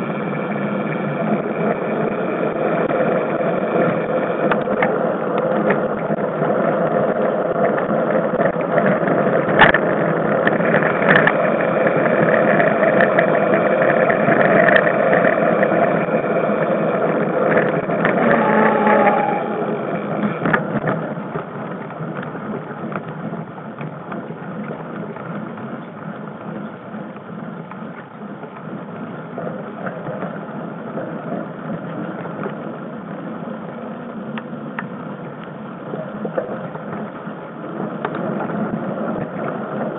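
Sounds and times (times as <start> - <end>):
bike tyres rumbling and rattling: 0.0 - 39.9.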